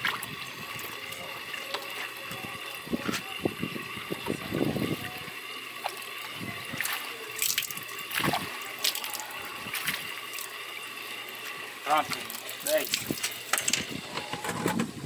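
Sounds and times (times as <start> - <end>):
water splashing and dripping: 0.0 - 13.9.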